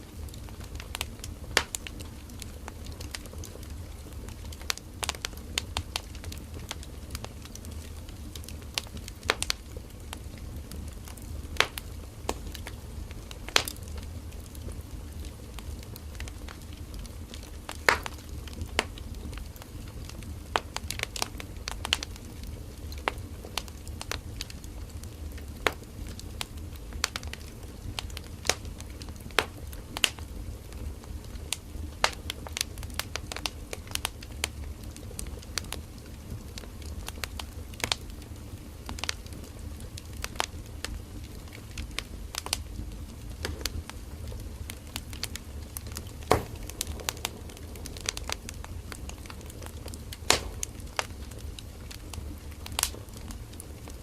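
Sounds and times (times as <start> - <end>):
campfire flames rumbling: 0.0 - 54.0
fire crackles and pops: 0.0 - 54.0.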